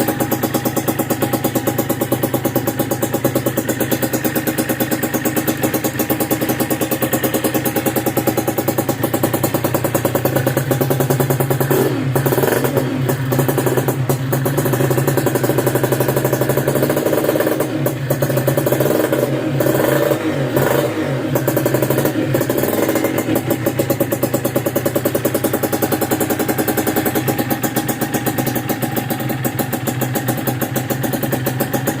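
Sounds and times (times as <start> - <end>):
motorcycle engine revving and idling: 0.0 - 32.0.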